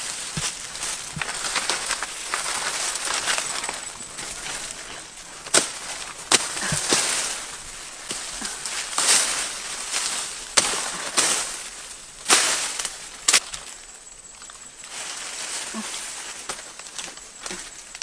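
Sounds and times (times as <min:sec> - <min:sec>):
branches cracking: 0:00.0 - 0:18.0
leaves rustling: 0:00.0 - 0:18.0.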